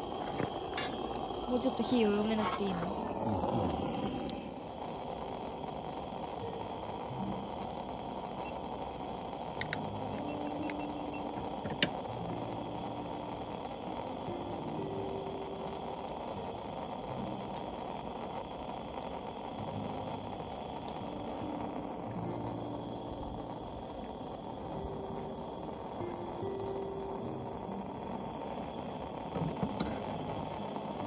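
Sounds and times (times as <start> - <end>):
pressure burner roaring: 0.0 - 31.0.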